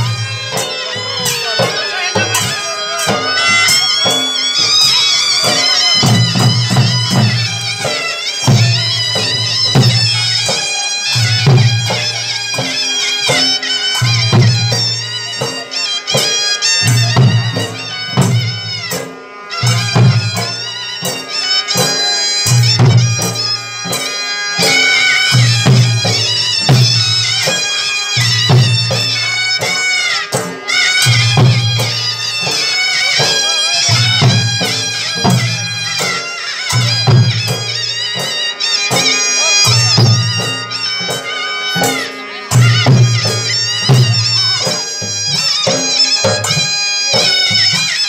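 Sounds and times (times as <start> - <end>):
barrel drums beating: 0.0 - 21.2, 21.8 - 47.8
reedy wind instrument melody: 0.0 - 48.0.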